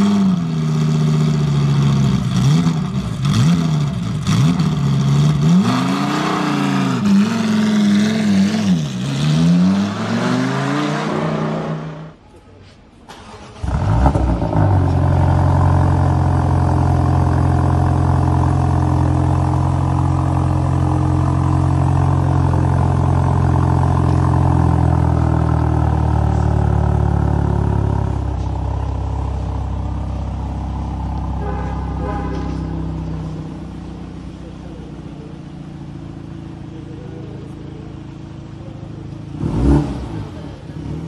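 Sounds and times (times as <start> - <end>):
car engine starting and idling: 0.0 - 41.0.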